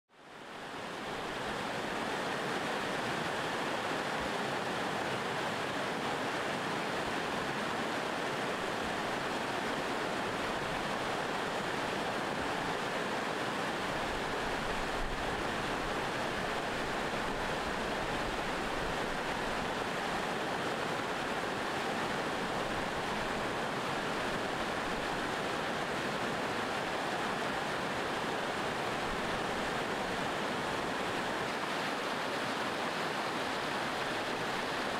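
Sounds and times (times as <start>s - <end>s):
river rapids rushing over rocks: 0.2s - 34.9s.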